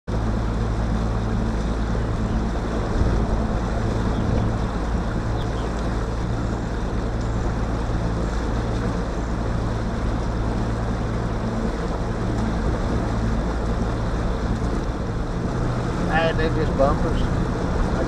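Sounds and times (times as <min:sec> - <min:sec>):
outboard motor running: 0:00.1 - 0:18.0
wind buffeting microphone: 0:00.1 - 0:18.0.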